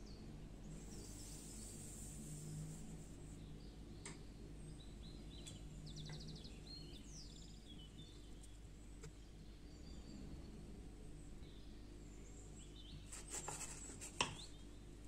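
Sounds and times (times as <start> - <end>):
faint bird chirps and trill: 0.0 - 15.0
low steady hum: 0.0 - 15.0.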